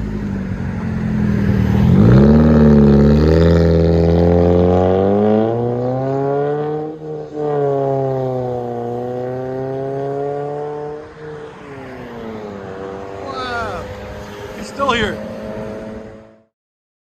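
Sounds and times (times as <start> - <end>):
car engine accelerating: 0.0 - 16.5.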